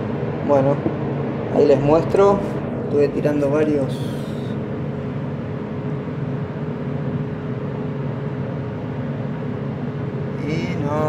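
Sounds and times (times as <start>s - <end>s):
constant mid-pitched tone: 0.0s - 11.0s
mechanical hum: 0.0s - 11.0s.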